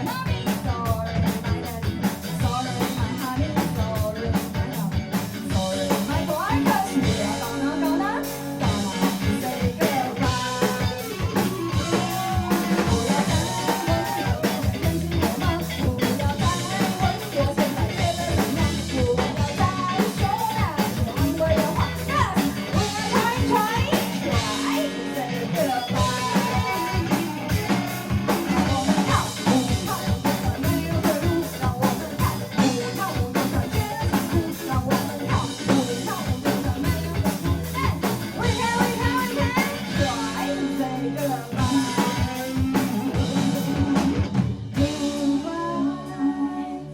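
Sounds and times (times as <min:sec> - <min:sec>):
drum kit beat: 0:00.0 - 0:45.7
electric guitar: 0:00.0 - 0:46.9
person singing: 0:00.0 - 0:46.9.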